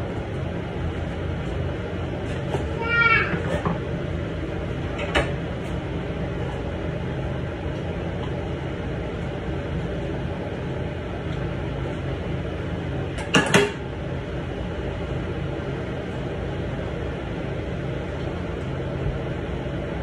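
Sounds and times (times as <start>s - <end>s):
fan whirring hum: 0.0s - 20.0s.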